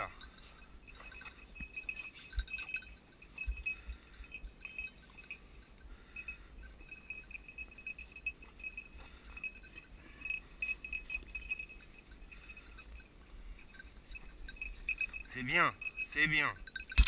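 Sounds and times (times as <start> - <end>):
dog bell jingling: 0.0 - 17.0.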